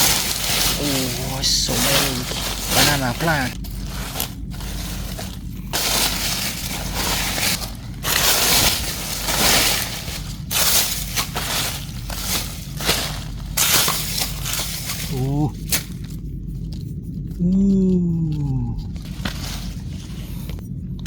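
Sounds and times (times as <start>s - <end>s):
dry leaves crunching and rustling: 0.0s - 16.9s, 17.6s - 20.6s.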